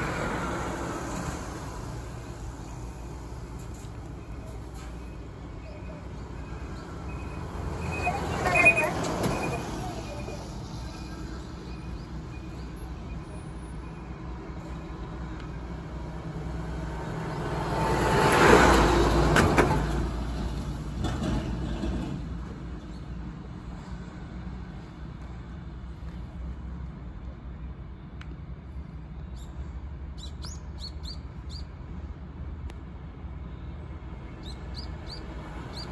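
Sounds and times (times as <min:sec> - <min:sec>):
vehicle deep rumble: 0:00.0 - 0:35.9.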